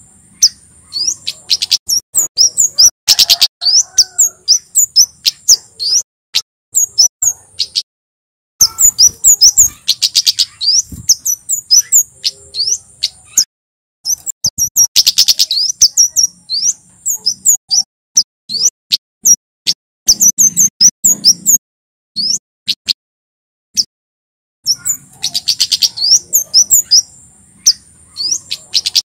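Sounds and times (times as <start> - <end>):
bird singing high-pitched chirps: 0.0 - 6.1, 6.8 - 7.9, 8.6 - 19.4, 20.1 - 21.6, 22.2 - 23.0, 24.6 - 29.0.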